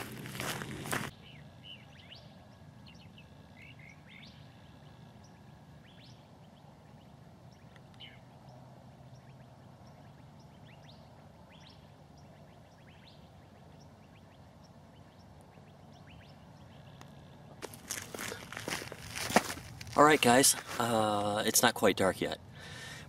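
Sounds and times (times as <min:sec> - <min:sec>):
low background noise: 0:00.0 - 0:23.0
small birds chirping: 0:00.0 - 0:23.0.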